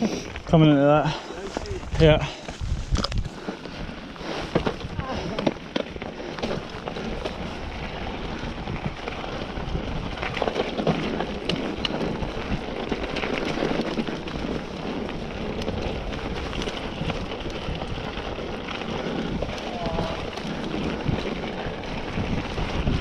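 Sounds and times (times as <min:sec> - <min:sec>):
bike clicks and rattles: 0:00.0 - 0:23.0
tyres rolling on rough trail: 0:00.0 - 0:23.0.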